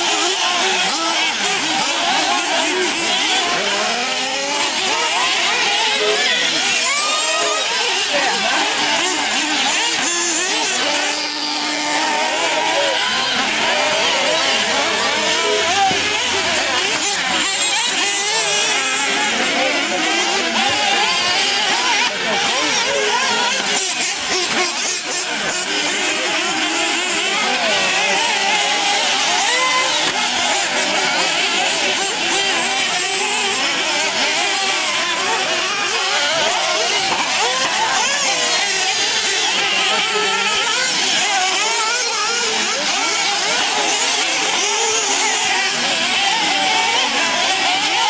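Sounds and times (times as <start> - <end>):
model car engines revving: 0.0 - 48.0.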